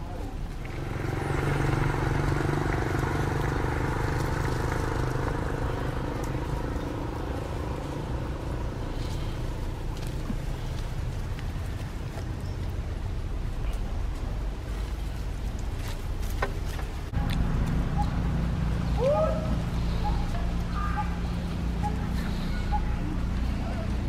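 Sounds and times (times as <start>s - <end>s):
engine running: 0.2s - 24.0s.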